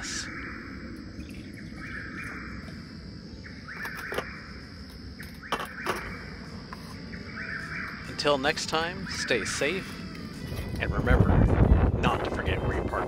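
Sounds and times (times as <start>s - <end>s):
trilling call: 0.0s - 10.9s
high insect drone: 0.0s - 13.0s.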